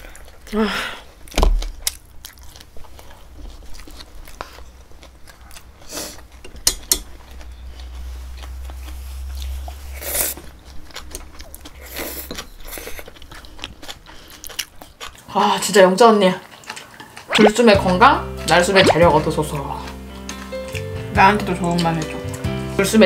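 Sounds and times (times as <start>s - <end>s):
people chewing and biting food: 0.0s - 15.3s, 16.2s - 17.6s, 18.8s - 22.6s.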